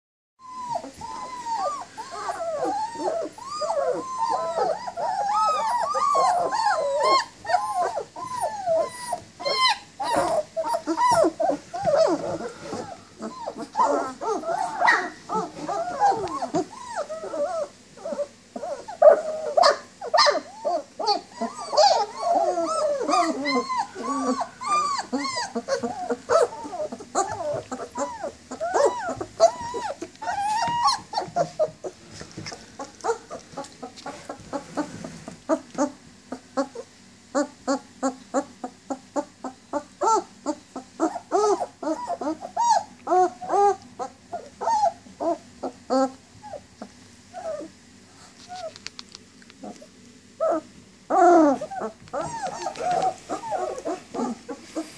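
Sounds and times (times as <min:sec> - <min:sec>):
puppies whining and whimpering: 0:00.4 - 0:48.8, 0:49.6 - 0:54.9.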